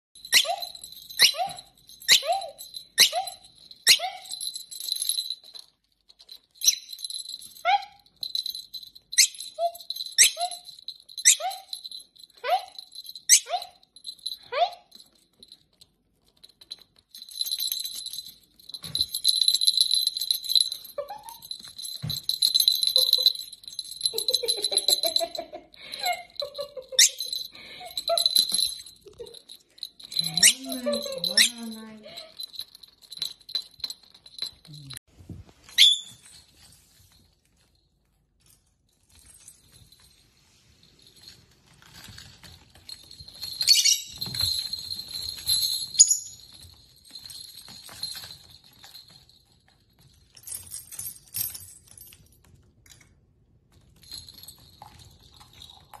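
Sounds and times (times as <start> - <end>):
small metal bells jingling: 0.2 - 53.1, 53.7 - 56.0.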